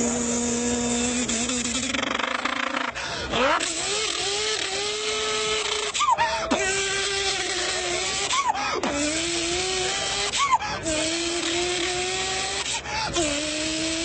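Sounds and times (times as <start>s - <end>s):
person imitating engine with voice: 0.0s - 14.0s.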